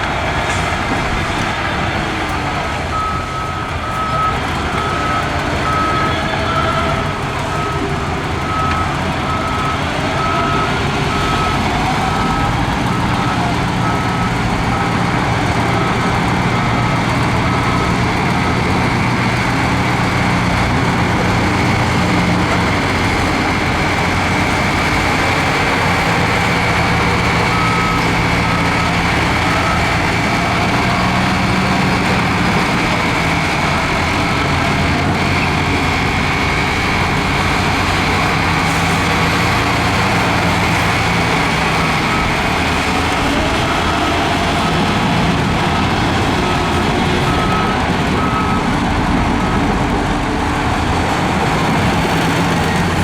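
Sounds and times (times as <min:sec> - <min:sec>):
heavy diesel machinery running: 0:00.0 - 0:53.0
reversing alarm beeping: 0:02.9 - 0:49.9.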